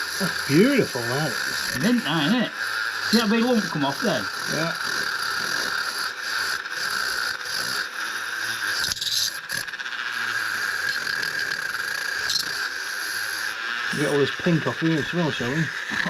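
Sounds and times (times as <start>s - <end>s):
small power tool whining: 0.0s - 16.0s.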